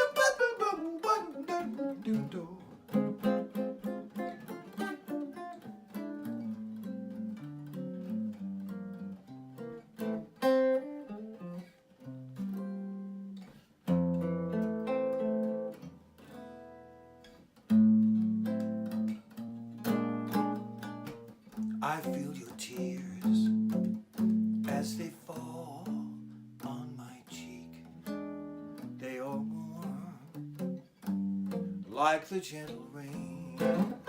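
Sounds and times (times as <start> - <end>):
acoustic guitar bossa nova: 0.0 - 34.0.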